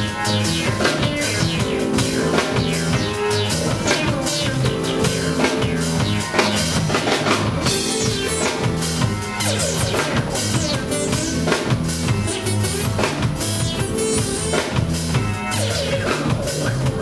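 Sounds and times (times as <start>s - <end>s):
guitar playing: 0.0s - 14.5s
bass line: 0.0s - 17.0s
drum kit: 0.0s - 17.0s.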